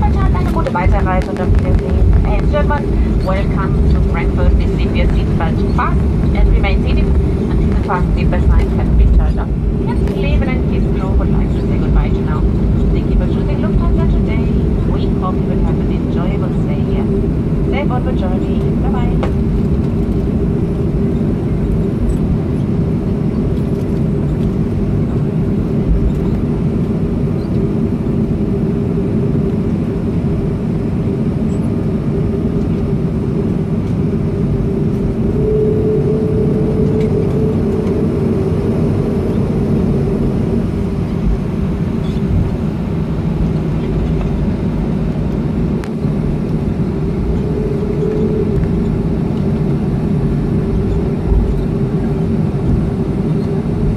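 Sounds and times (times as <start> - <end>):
aircraft cabin low rumble: 0.0 - 53.9
higher hum: 0.0 - 53.9.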